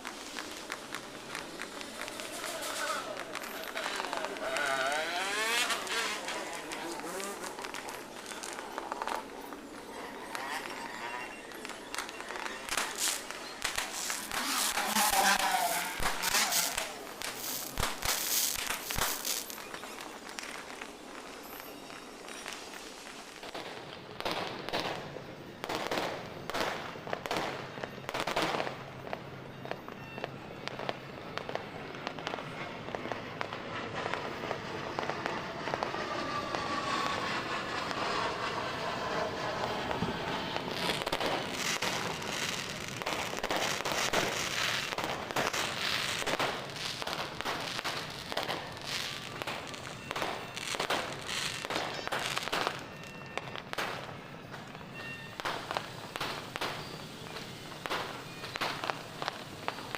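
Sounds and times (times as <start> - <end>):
fireworks and firecrackers banging: 0.0 - 59.9.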